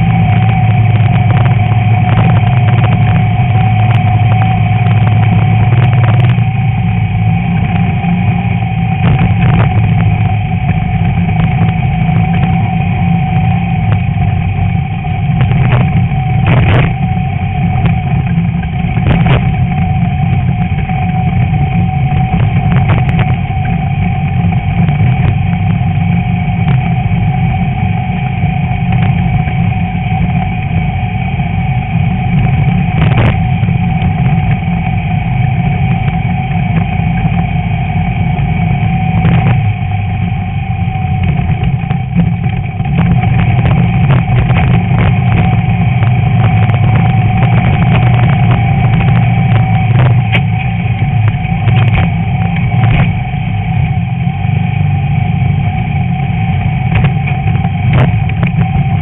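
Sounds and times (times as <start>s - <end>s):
car engine running under load: 0.0s - 59.0s.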